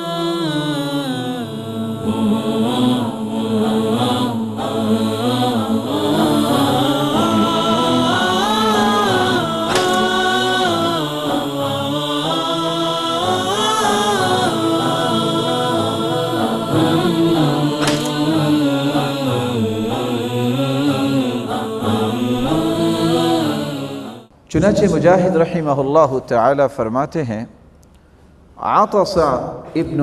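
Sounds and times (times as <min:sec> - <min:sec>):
melodic vocal chanting: 0:00.0 - 0:27.4.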